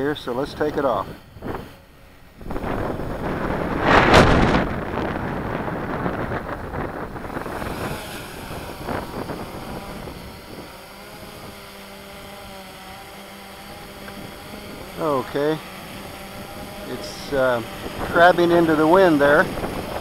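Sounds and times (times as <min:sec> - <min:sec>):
quadcopter motors humming: 0:00.0 - 0:20.0
wind rushing on microphone: 0:00.2 - 0:12.3, 0:13.8 - 0:20.0.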